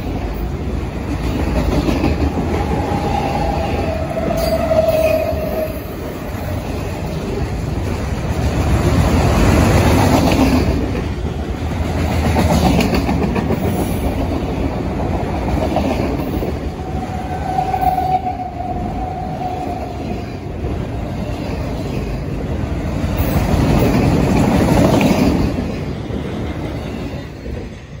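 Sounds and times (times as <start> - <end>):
freight cars rumbling on rails: 0.0 - 28.0.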